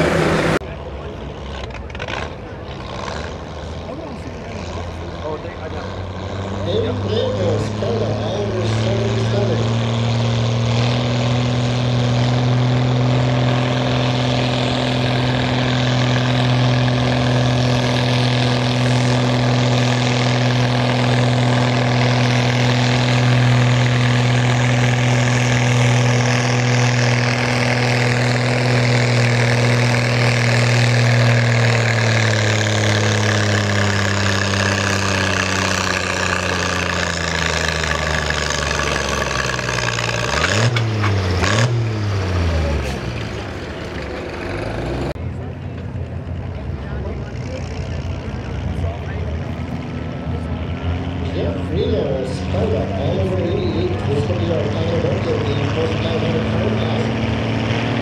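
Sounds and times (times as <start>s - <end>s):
tractor engine at high revs: 0.0s - 58.0s.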